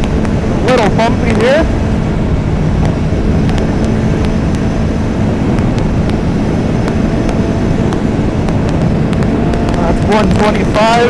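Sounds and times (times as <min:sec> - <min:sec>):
snowmobile engine rumble: 0:00.0 - 0:11.0.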